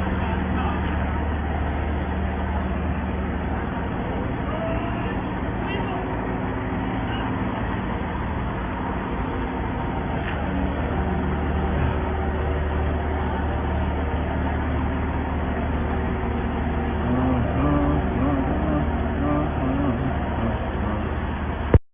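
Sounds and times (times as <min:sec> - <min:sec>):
drilling rig engine humming: 0:00.0 - 0:21.8.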